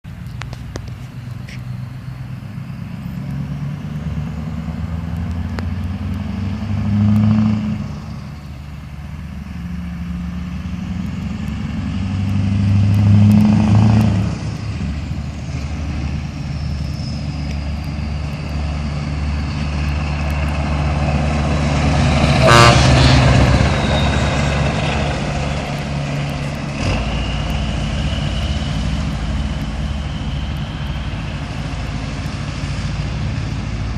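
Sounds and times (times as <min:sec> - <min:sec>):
diesel truck engine revving: 0:00.7 - 0:33.9.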